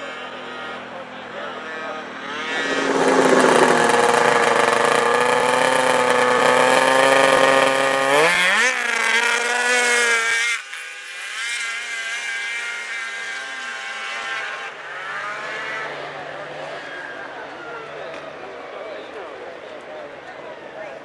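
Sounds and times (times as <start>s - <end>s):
snowmobile engines revving: 0.0s - 21.0s.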